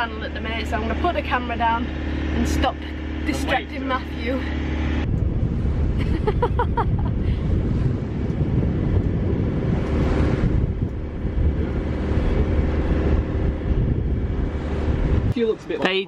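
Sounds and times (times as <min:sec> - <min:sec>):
sea water rushing along hull: 0:00.0 - 0:16.0
wind buffeting microphone: 0:00.0 - 0:16.0.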